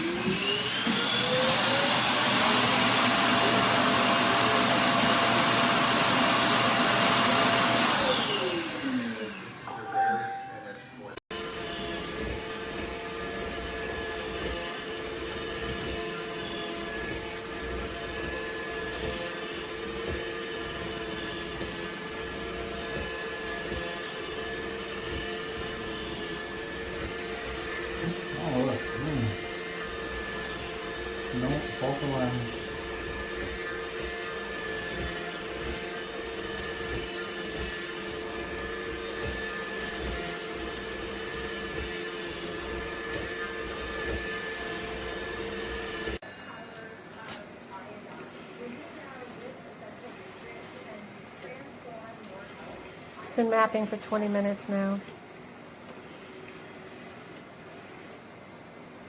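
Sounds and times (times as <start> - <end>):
vacuum motor whining: 0.0 - 59.0.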